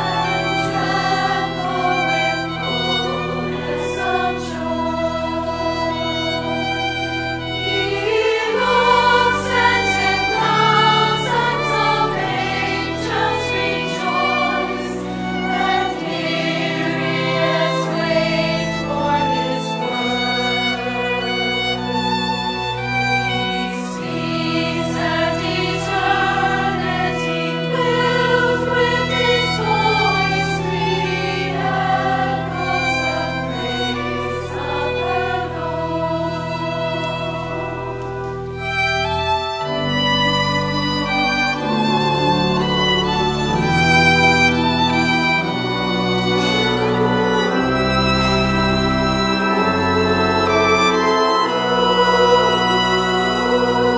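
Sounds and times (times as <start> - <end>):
pipe organ chords: 0.0 - 53.9
solo violin: 0.0 - 53.9
women's choir singing: 0.0 - 53.9.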